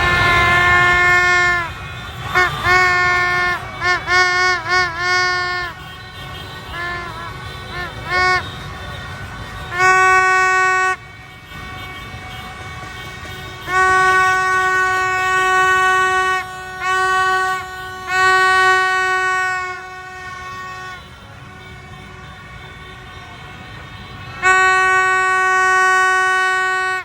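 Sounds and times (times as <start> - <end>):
horn long blasts: 0.0 - 27.0.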